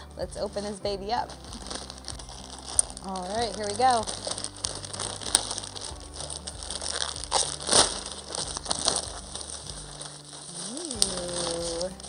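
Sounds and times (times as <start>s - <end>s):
plastic bag and bubble wrap crinkling: 0.0s - 12.0s
plastic bag tearing: 0.4s - 12.0s.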